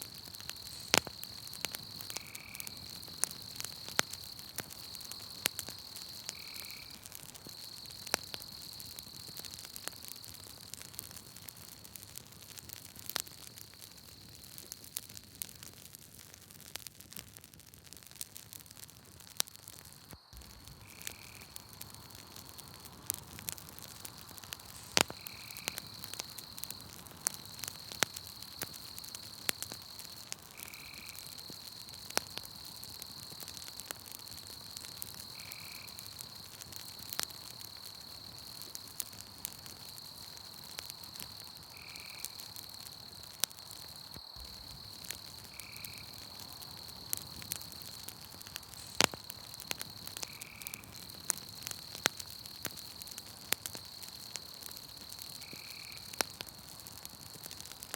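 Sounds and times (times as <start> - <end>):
high-pitched insect trill: 0.0 - 10.5, 20.0 - 22.8, 24.1 - 57.4
campfire crackling and popping: 0.0 - 57.9.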